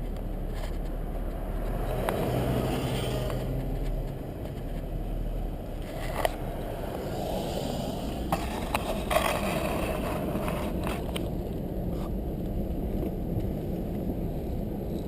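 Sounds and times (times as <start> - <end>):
tyre and road noise: 0.0 - 15.0.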